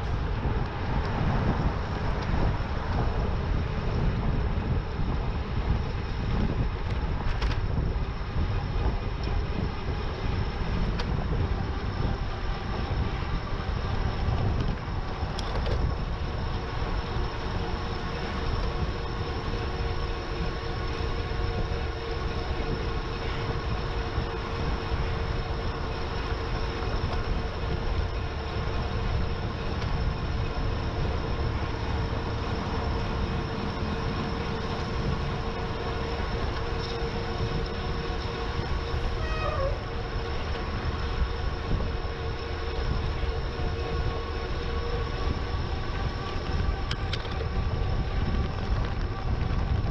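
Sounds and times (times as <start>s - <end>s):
faint steady whine: 0.0s - 49.9s
wind rumble on microphone: 0.0s - 49.9s.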